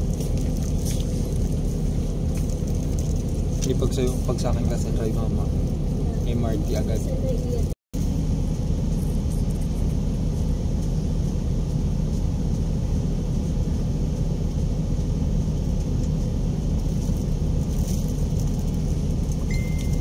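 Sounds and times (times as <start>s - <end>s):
bus cabin rumble: 0.0s - 20.0s
engine hum: 0.0s - 20.0s.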